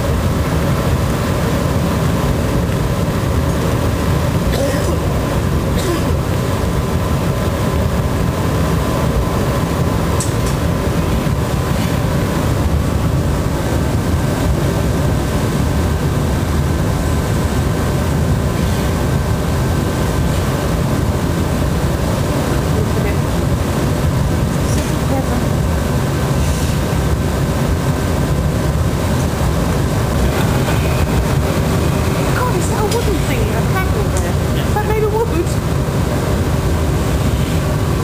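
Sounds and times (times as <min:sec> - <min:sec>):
faint steady hum: 0:00.0 - 0:38.0
gas furnace roar: 0:00.0 - 0:38.0.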